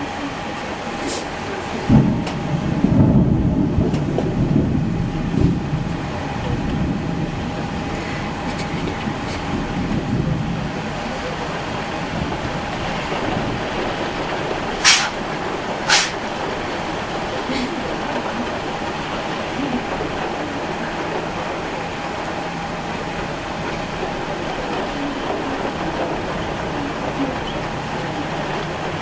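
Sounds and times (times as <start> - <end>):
steady rain: 0.0 - 29.0
thunder rumbling: 0.0 - 29.0.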